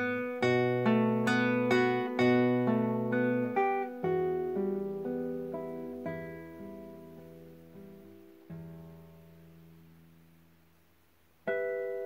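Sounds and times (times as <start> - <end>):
fingerpicked classical guitar: 0.0 - 12.0.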